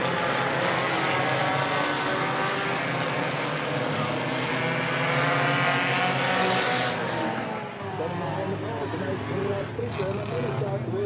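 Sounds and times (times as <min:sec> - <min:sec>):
race car engines running: 0:00.0 - 0:11.0.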